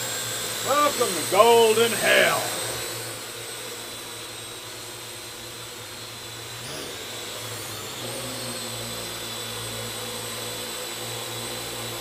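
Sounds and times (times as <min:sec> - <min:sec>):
drone rotors whining: 0:00.0 - 0:12.0
motor hum: 0:00.0 - 0:12.0.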